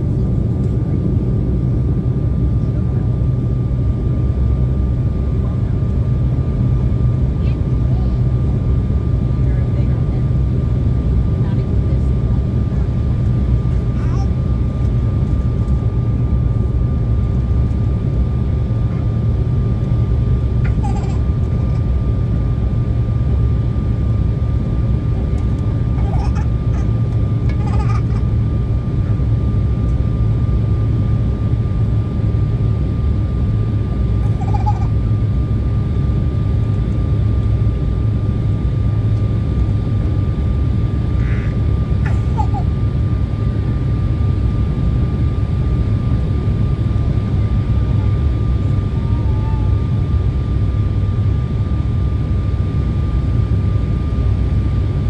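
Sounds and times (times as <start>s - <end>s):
jet cabin engine rumble: 0.0s - 55.0s.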